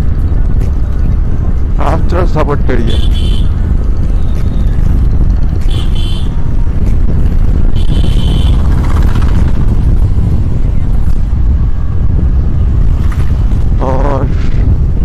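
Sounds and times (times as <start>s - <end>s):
motorcycle running: 0.0s - 15.0s
wind rumble on microphone: 0.0s - 15.0s.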